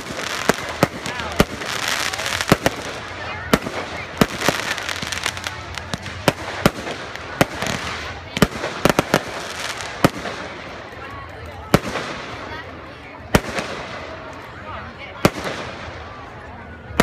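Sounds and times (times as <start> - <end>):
fireworks bursting bangs: 0.0 - 14.4, 15.2 - 16.2.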